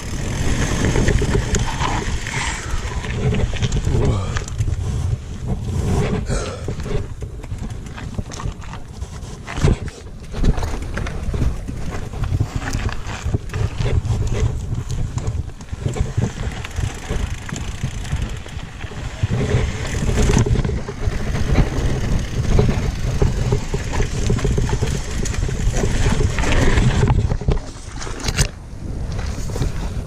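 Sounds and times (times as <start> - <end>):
bike rattling over bumps: 0.0 - 30.0
bike rumbling: 0.0 - 30.0
wind buffeting microphone: 0.0 - 30.0.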